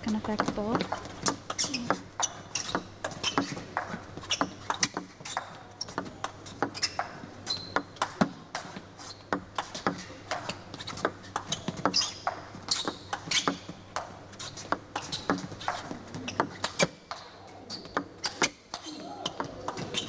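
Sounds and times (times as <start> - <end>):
shoes squeaking on floor: 0.0 - 20.0.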